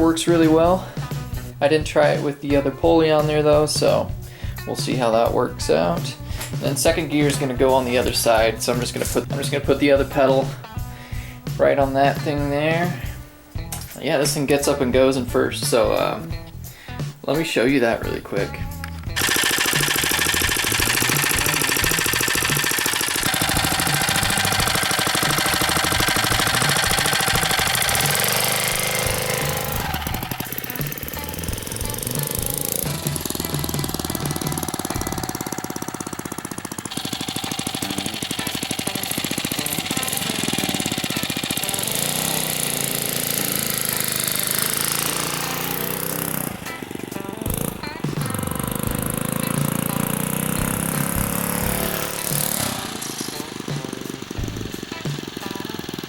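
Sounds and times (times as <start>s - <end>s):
small engine running hard: 0.0s - 11.5s, 18.0s - 56.0s.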